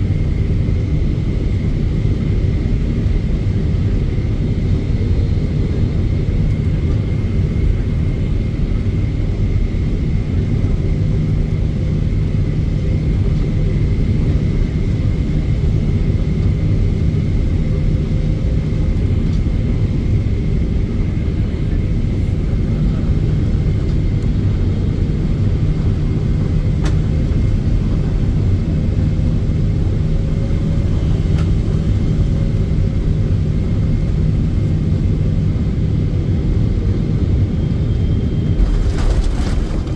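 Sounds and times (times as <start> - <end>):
aircraft cabin rumble: 0.0 - 39.9.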